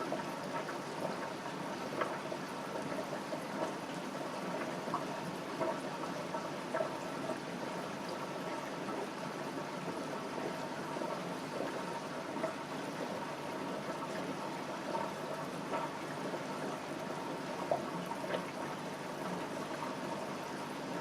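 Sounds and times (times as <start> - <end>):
aquarium water trickling and bubbling: 0.0 - 21.0.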